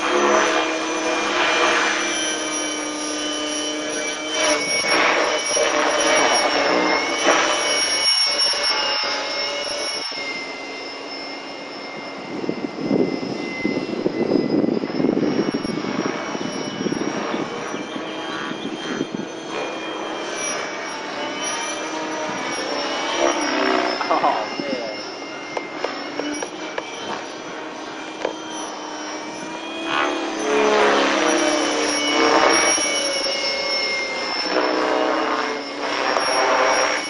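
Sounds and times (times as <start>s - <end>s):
electric motor and gears whine: 0.0s - 37.0s
helicopter rotor noise: 0.0s - 37.0s.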